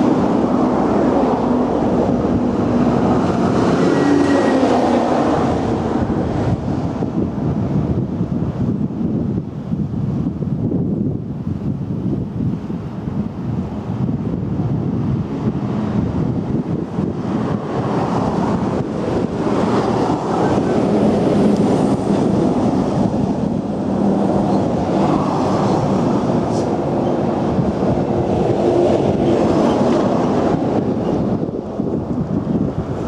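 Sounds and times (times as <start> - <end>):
lorry passing close by: 0.0 - 8.9, 13.5 - 33.0
road traffic tyre and engine noise: 0.0 - 33.0.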